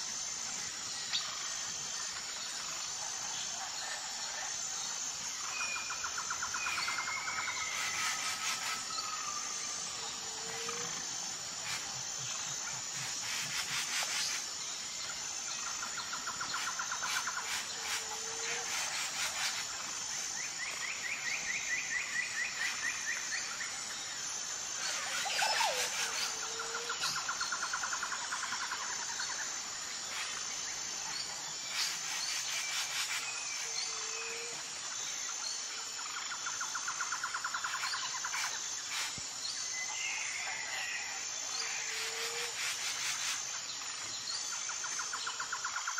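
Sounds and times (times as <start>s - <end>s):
insect chirring: 0.0s - 45.9s.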